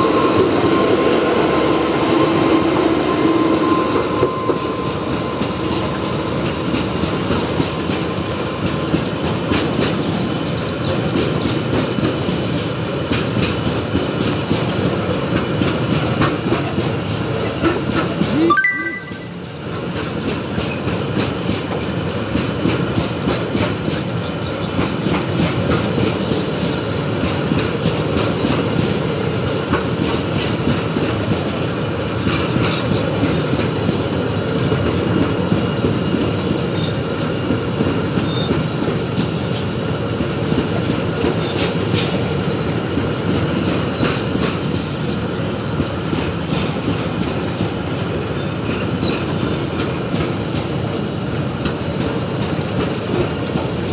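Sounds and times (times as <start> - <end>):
freight train wheels rumbling: 0.0 - 18.3, 20.0 - 53.9.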